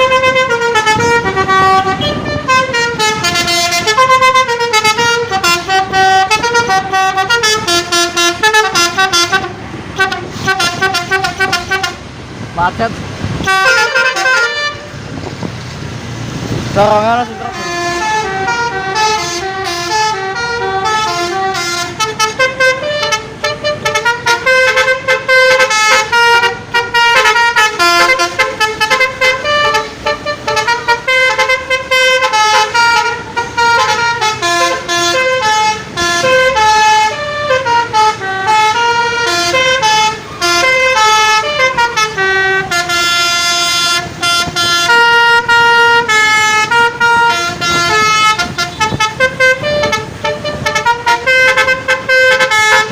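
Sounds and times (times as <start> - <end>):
musical bus air horn tune: 0.0 - 12.1, 13.4 - 15.1, 17.1 - 52.9.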